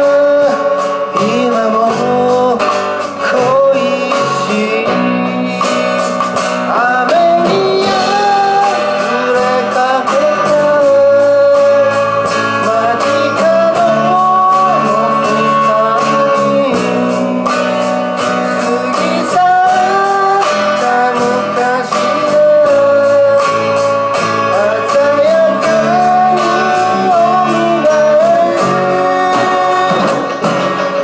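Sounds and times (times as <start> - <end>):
electric bass: 0.0 - 31.0
person singing: 0.0 - 31.0
steady beat: 0.0 - 31.0
strummed acoustic guitars: 0.0 - 31.0.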